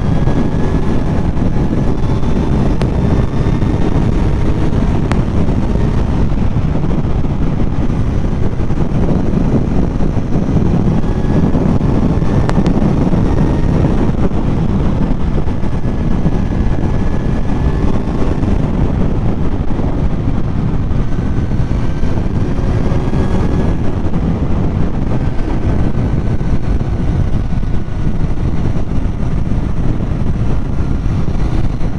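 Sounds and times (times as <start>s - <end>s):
motorcycle engine cruising: 0.0s - 31.9s
wind rushing over microphone: 0.0s - 31.9s.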